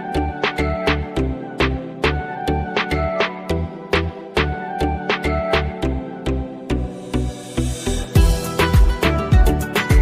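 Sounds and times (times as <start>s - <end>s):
background music with heavy bass: 0.0s - 10.0s.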